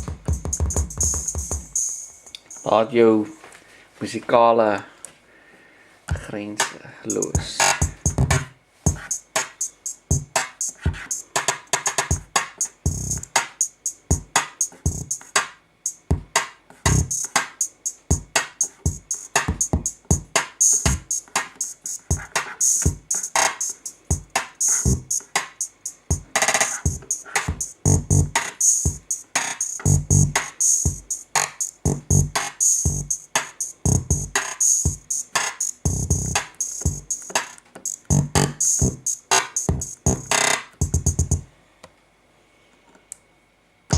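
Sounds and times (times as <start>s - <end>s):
synthesizer drum-machine patterns: 0.0s - 2.7s, 6.1s - 41.4s.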